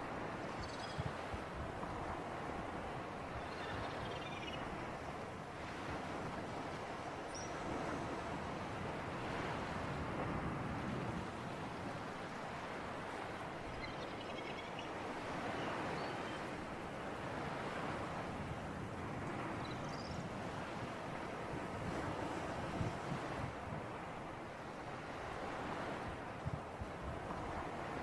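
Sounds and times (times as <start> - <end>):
sea surf: 0.0 - 28.0
wind: 0.0 - 28.0.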